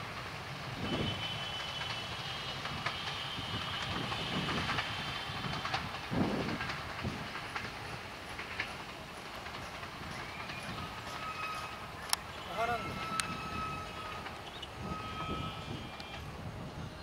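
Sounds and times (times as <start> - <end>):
train wheels clattering: 0.0 - 16.3.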